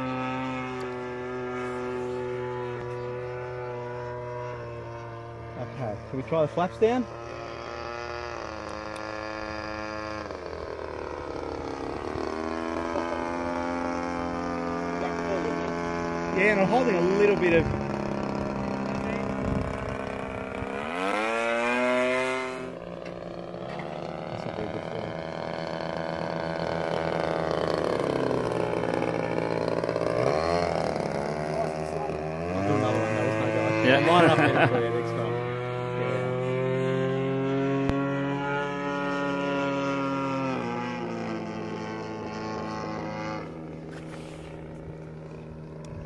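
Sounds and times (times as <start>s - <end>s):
model plane engine droning: 0.0s - 46.0s.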